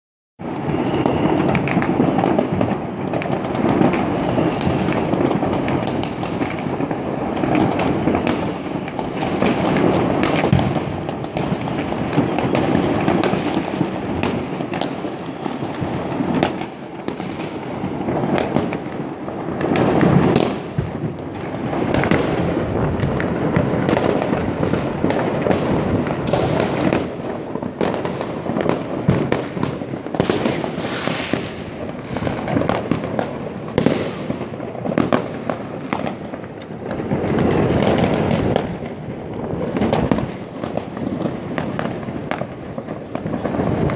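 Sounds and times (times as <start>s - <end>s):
fireworks banging and crackling: 0.4s - 43.9s.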